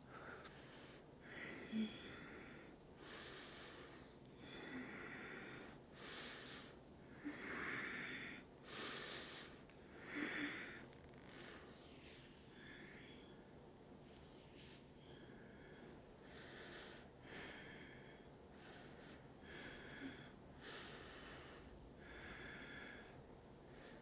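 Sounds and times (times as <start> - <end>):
woman breathing softly: 0.0 - 24.0.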